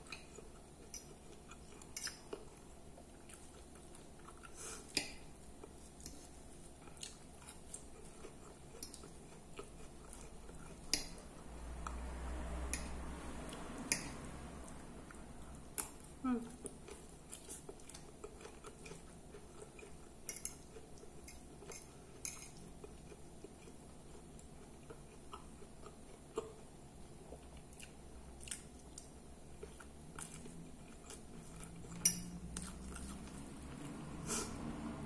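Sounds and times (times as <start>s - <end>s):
close-up chewing: 0.0s - 12.0s, 16.6s - 34.0s.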